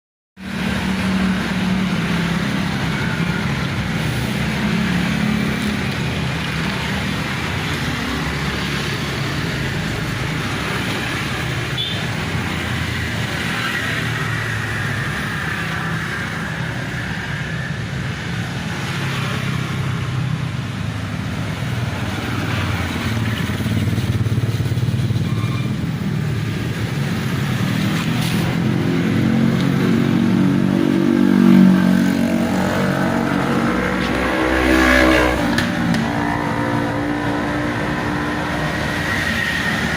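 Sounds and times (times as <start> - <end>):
road traffic passing: 0.4 - 39.9.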